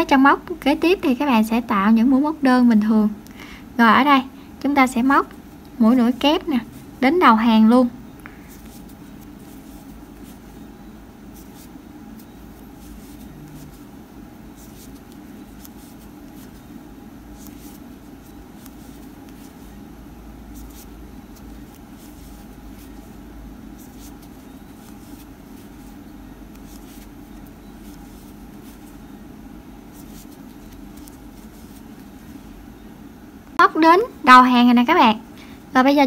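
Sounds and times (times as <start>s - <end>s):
low background hum: 0.0s - 36.0s.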